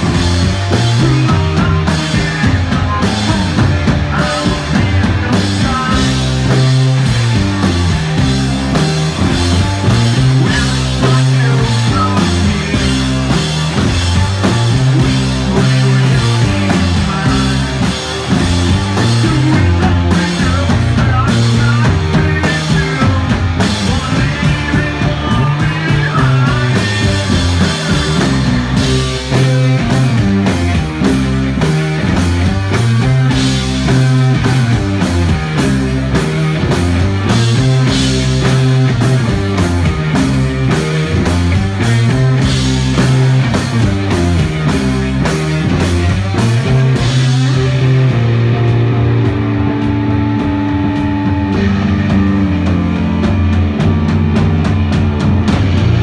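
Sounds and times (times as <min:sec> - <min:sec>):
bass line: 0:00.0 - 0:56.0
drum kit: 0:00.0 - 0:56.0
electric guitar: 0:00.0 - 0:56.0.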